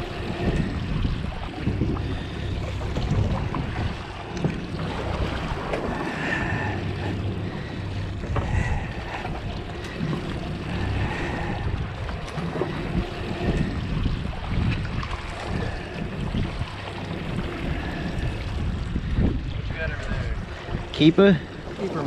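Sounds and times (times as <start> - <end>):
waves washing against hull: 0.0 - 22.0
wind buffeting microphone: 0.0 - 22.0.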